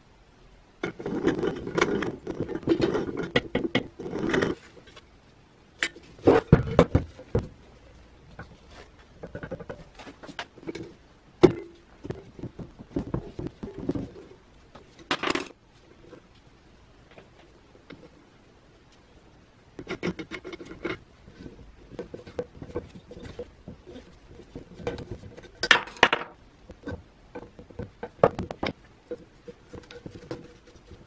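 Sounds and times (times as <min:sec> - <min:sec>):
metal parts rattling and scraping: 0:00.8 - 0:05.1, 0:05.8 - 0:07.6, 0:08.2 - 0:16.3, 0:19.8 - 0:31.0.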